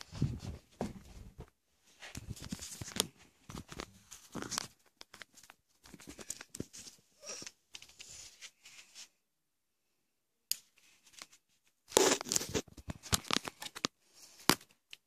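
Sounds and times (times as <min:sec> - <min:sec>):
rustling and scraping of handling: 0:00.0 - 0:09.2, 0:10.6 - 0:14.8.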